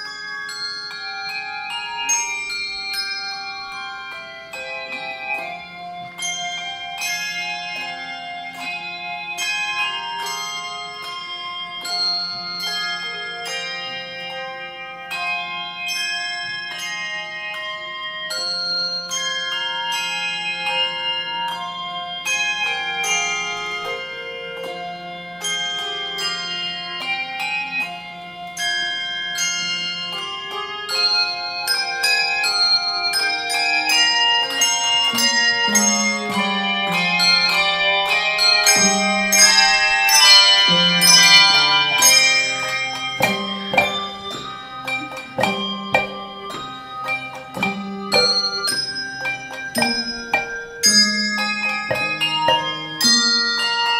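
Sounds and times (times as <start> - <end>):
handbell choir playing: 0.0 - 53.9.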